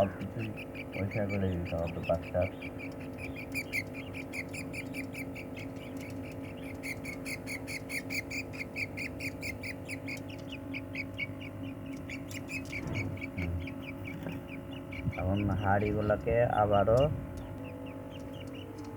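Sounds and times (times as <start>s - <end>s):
budgerigar chicks cheeping: 0.0s - 18.9s.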